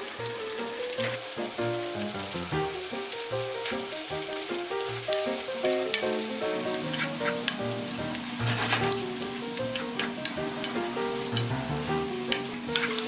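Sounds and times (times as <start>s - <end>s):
onions sizzling in oil: 0.0s - 13.0s
background music: 0.2s - 13.0s.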